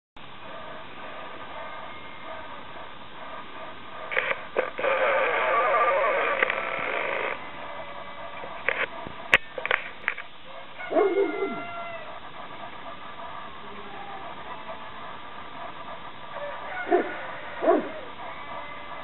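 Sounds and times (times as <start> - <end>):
dogs barking: 0.3 - 19.0.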